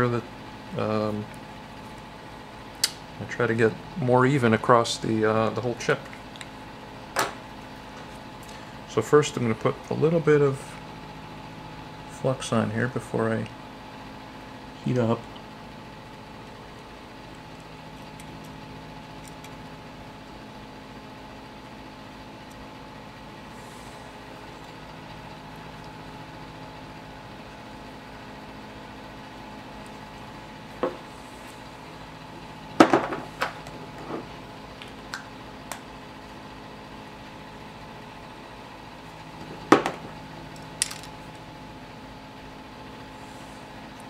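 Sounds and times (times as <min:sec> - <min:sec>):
steady machine hum: 0:00.0 - 0:44.0.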